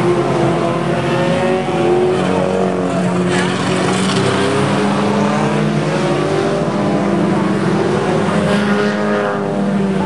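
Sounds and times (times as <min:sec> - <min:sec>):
racing car engines: 0:00.0 - 0:10.0.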